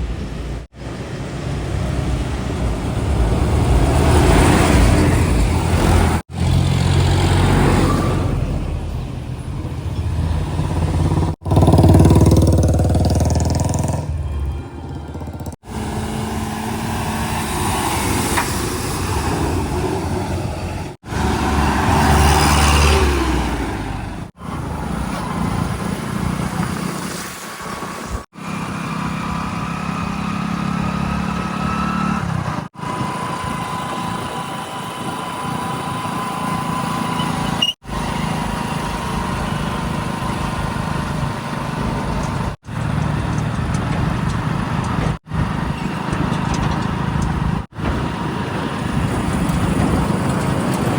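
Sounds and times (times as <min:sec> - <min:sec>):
diesel machinery engines running: 0:00.0 - 0:26.6, 0:28.4 - 0:50.9.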